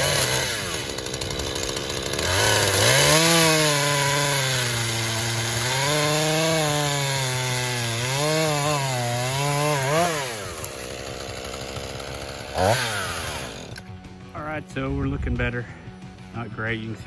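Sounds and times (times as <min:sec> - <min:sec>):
chainsaw cutting wood: 0:00.0 - 0:14.2.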